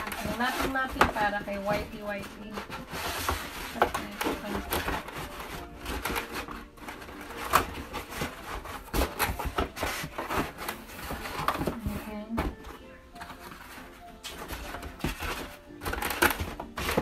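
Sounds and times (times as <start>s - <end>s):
box and packaging being handled: 0.0s - 17.0s.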